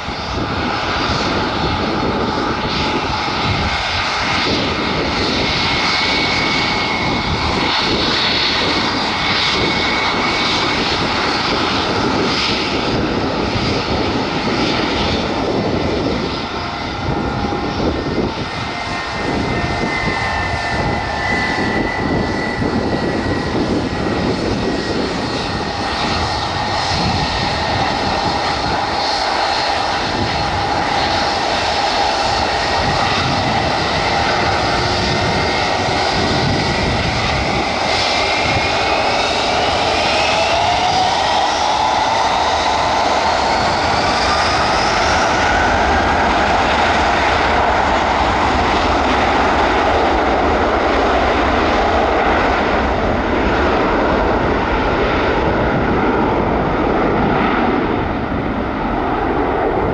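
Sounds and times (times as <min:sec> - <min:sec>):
jet engines rushing and whining: 0:00.0 - 0:59.9
wind gusts on microphone: 0:00.0 - 0:59.9.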